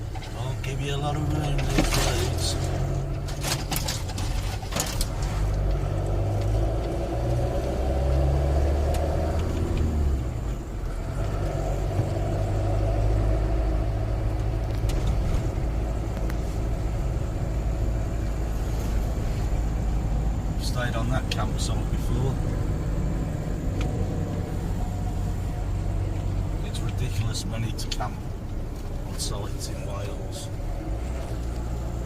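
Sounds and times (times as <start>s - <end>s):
road noise: 0.0s - 32.0s
vehicle engine drone: 0.0s - 32.0s.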